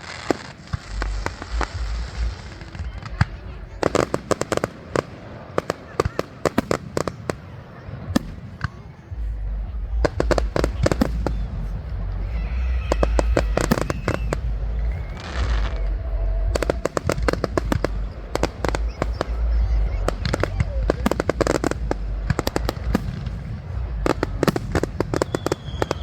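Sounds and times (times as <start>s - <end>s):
fireworks crackling and banging: 0.0s - 26.0s
deep rumble of bursts: 0.8s - 4.3s, 7.9s - 26.0s.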